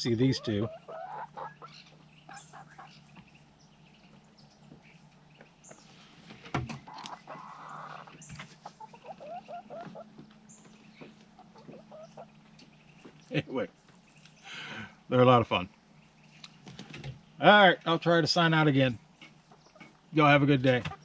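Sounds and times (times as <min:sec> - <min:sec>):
hens clucking: 0:00.0 - 0:15.0, 0:18.2 - 0:21.0.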